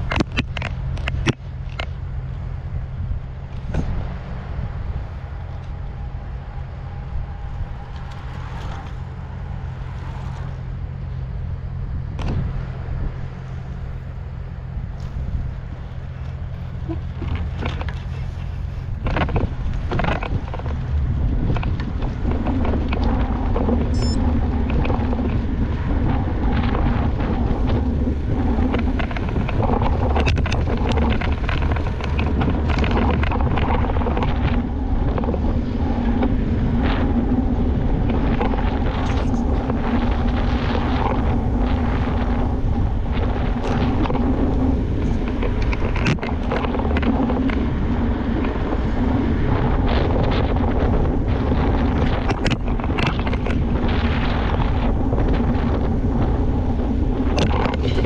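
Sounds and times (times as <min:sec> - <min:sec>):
bike clicks and rattles: 0:00.0 - 0:11.2, 0:12.1 - 0:58.0
wind buffeting microphone: 0:00.0 - 0:58.0.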